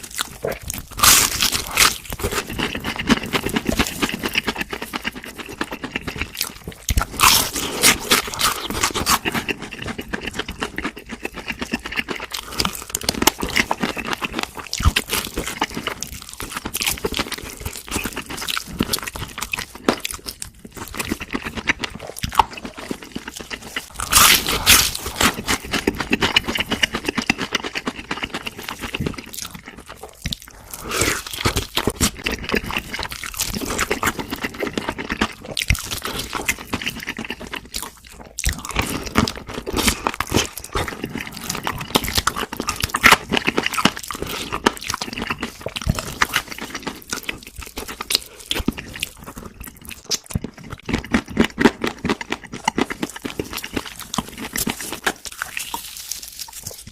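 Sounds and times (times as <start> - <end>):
crunching and chewing crispy food: 0.0 - 56.9.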